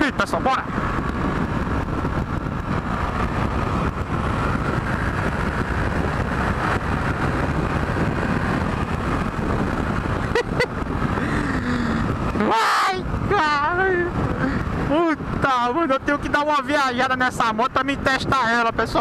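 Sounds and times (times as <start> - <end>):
motorcycle engine at full throttle: 0.0 - 19.0
wind noise on microphone: 0.0 - 19.0.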